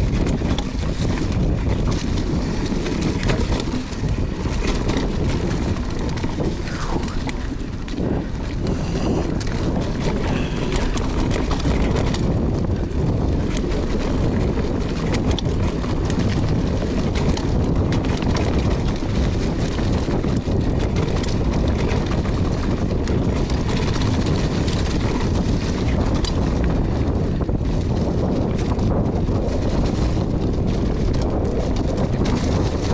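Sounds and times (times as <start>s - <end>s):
bike clicks and rattles: 0.0s - 32.9s
wind buffeting microphone: 0.0s - 32.9s.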